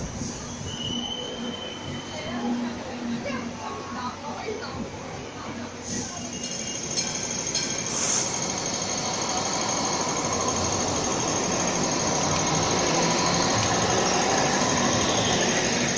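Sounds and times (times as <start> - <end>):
tram wheels rumbling on rails: 0.0 - 15.9.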